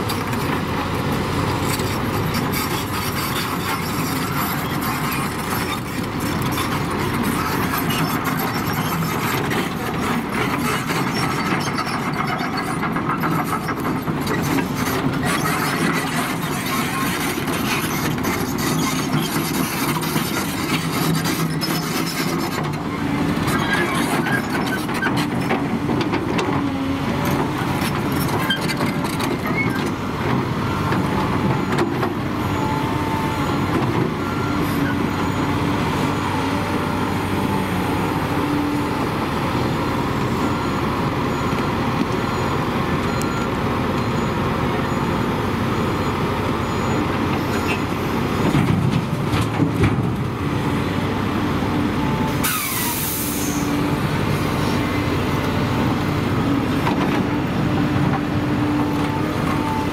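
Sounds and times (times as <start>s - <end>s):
excavator diesel engine and hydraulics: 0.0s - 59.9s.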